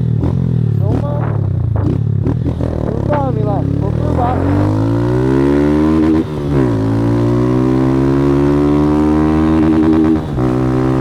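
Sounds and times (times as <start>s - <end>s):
motorcycle accelerating: 0.0s - 11.0s.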